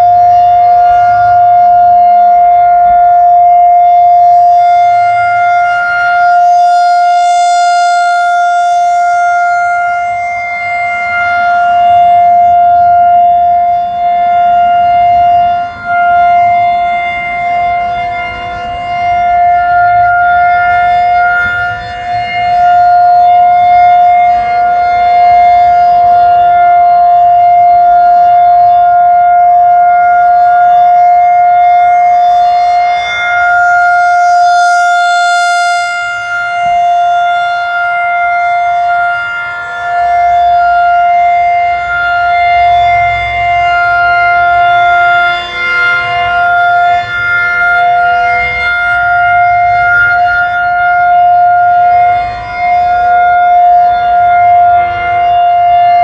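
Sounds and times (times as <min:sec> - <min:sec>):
rotating siren alert tone: 0:00.0 - 0:56.0.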